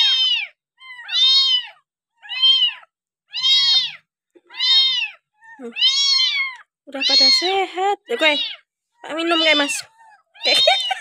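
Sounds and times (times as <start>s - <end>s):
kittens meowing: 0.0s - 11.0s.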